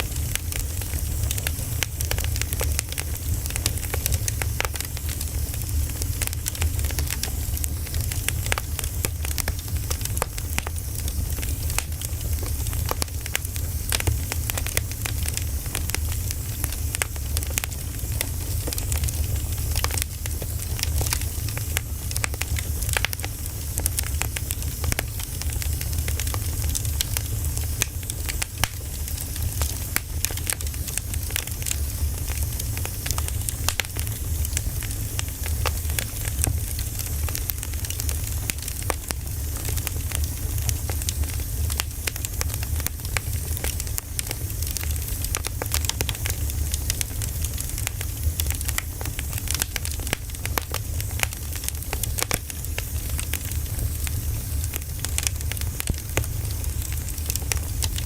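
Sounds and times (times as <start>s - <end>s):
low fire rumble: 0.0s - 58.0s
wood fire crackling and popping: 0.0s - 58.0s.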